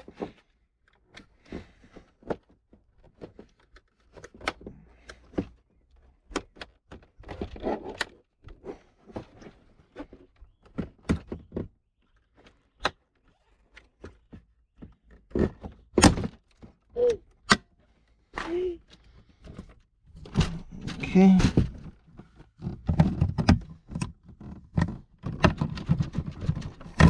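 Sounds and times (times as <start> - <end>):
plastic and metal clicks and knocks: 0.0 - 5.6, 6.2 - 17.7, 18.9 - 27.0.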